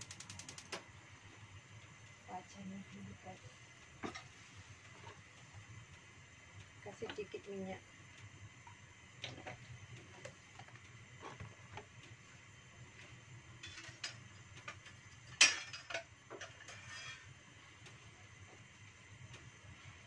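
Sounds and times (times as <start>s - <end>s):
oil ticking and popping: 0.0s - 20.0s.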